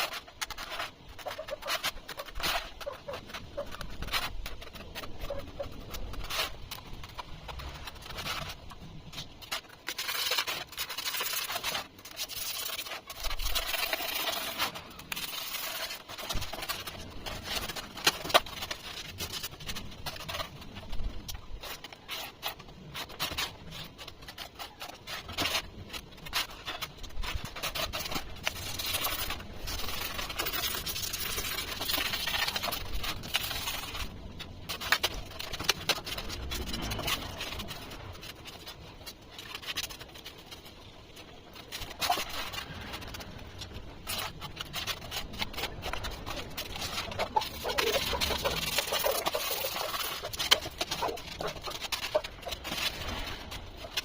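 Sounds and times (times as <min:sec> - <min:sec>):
scraping foam by hand: 0:00.0 - 0:54.0.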